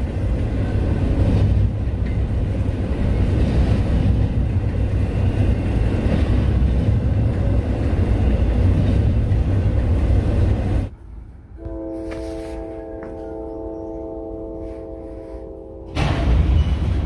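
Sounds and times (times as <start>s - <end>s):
freight train rumbling overhead: 0.0s - 17.0s.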